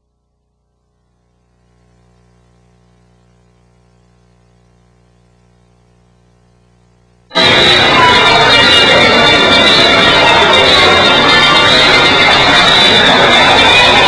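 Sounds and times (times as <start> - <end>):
faint electrical mains hum: 0.0 - 14.0.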